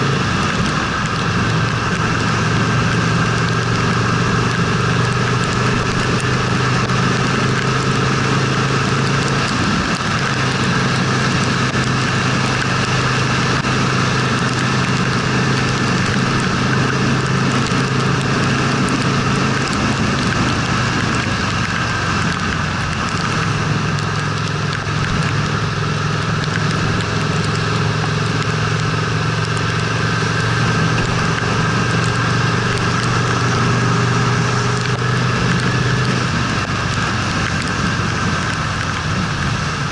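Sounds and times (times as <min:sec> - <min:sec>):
motorcycle engine running: 0:00.0 - 0:39.9
wind and wet road hiss: 0:00.0 - 0:39.9.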